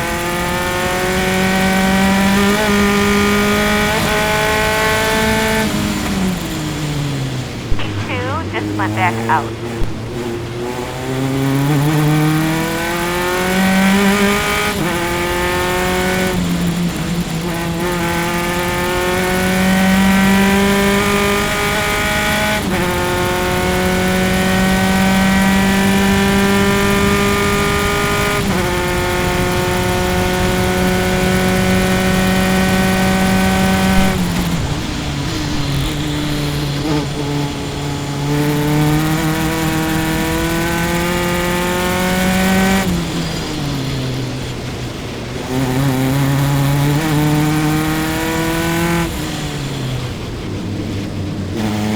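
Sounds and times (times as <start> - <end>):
race car engine accelerating: 0.0 - 51.9.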